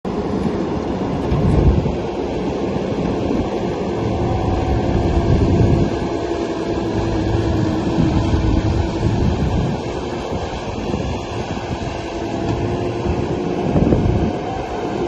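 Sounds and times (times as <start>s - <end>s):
loader engine rumbling: 0.2s - 15.0s.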